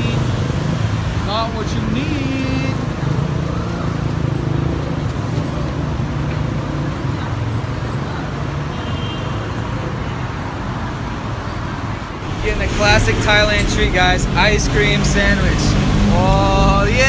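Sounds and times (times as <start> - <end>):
heavy road traffic rumble: 0.0 - 17.0.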